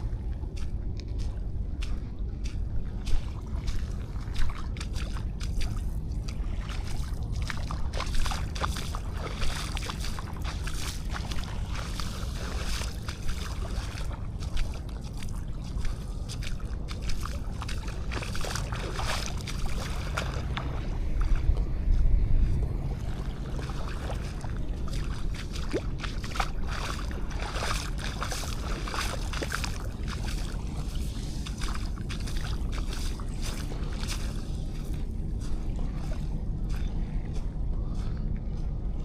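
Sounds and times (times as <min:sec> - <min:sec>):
waves lapping at shore: 0:00.0 - 0:39.0.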